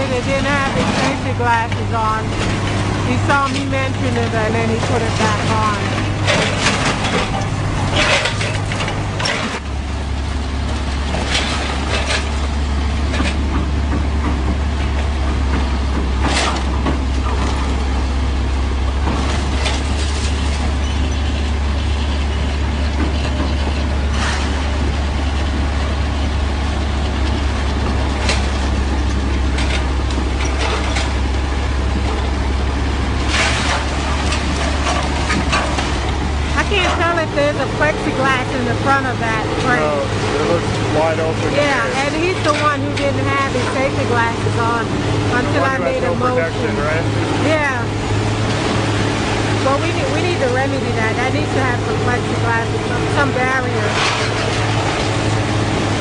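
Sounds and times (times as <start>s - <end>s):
crane engine droning: 0.0s - 56.0s.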